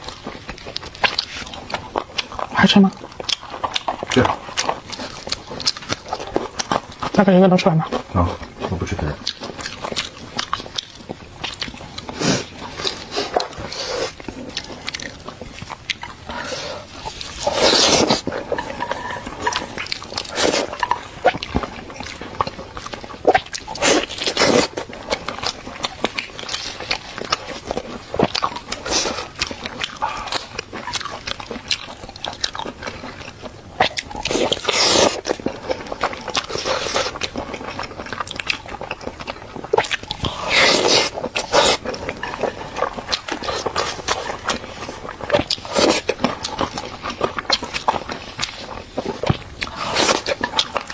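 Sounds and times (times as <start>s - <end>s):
chewing and biting chicken: 0.0s - 50.9s.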